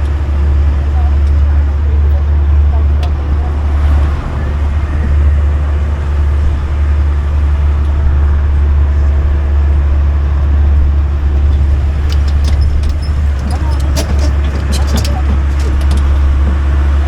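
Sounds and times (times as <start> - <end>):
road train drone and rumble: 0.0 - 17.0.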